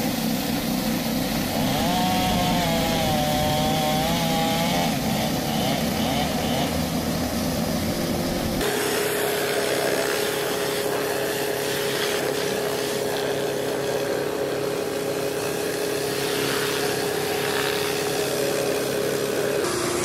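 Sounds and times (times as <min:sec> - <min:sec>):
pressure washer hum: 0:00.0 - 0:20.0.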